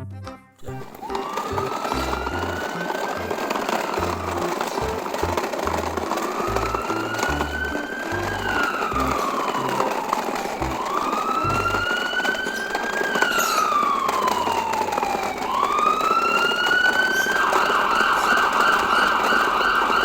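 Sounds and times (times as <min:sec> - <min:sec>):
siren wailing and yelping: 0:00.8 - 0:20.0.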